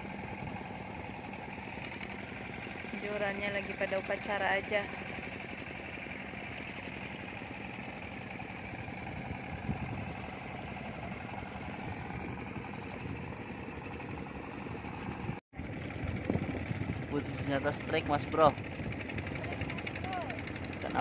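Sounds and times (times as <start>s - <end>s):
boat engines running: 0.0s - 21.0s.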